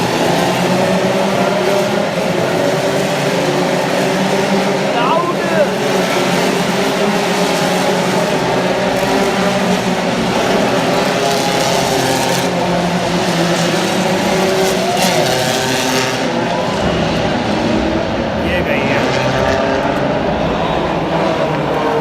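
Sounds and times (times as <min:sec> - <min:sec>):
racing engines at high revs: 0:00.0 - 0:22.0.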